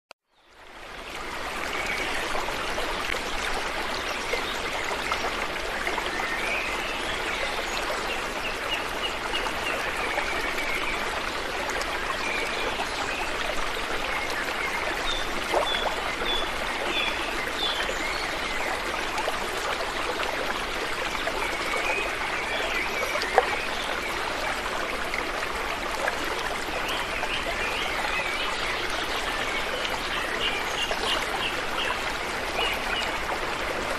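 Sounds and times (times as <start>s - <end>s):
stream running over rocks: 0.4s - 33.9s.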